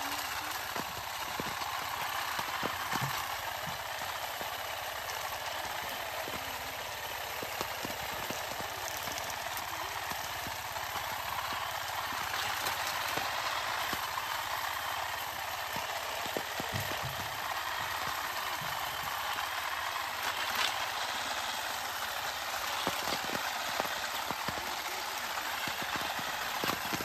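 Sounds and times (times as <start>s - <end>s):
electric olive harvester running: 0.0s - 27.0s.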